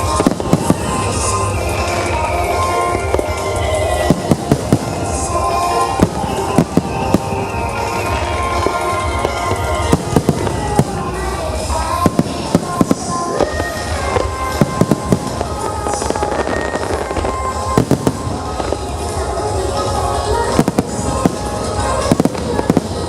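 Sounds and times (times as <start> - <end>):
fireworks bangs: 0.0 - 23.0
loud music: 0.0 - 23.0.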